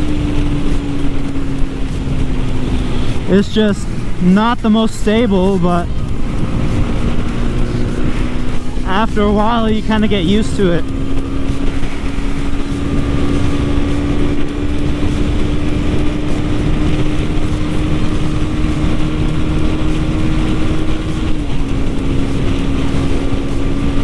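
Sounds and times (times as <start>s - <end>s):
motorcycle engine running: 0.0s - 24.0s
wind noise on microphone: 0.0s - 24.0s.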